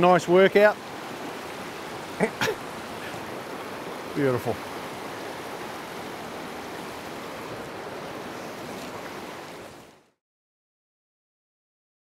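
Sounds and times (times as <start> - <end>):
river water flowing: 0.0 - 10.2.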